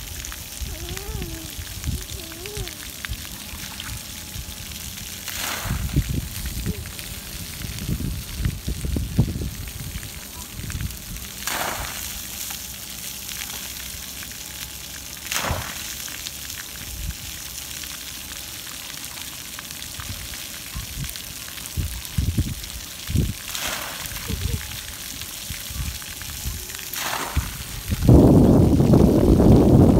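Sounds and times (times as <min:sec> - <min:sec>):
water splashes: 0:00.0 - 0:29.9.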